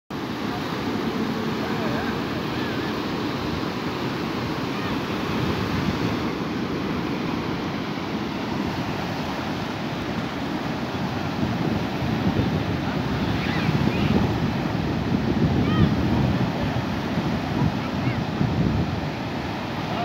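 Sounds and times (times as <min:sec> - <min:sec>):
surf breaking on beach: 0:00.1 - 0:20.0.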